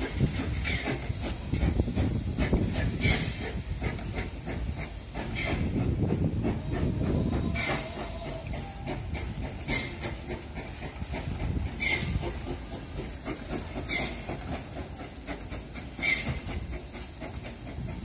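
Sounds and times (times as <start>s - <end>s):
steam hissing: 0.0s - 18.0s
steam locomotive rumble: 0.0s - 18.0s.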